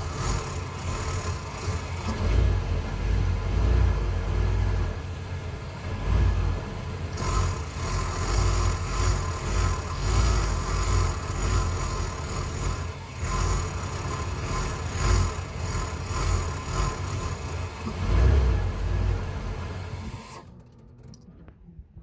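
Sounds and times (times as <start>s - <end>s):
engine idling roughly: 0.0s - 21.1s.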